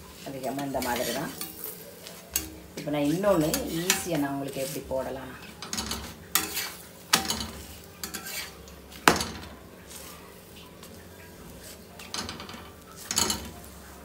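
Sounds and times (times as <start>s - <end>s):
spatula scraping on flat griddle: 0.1s - 14.0s.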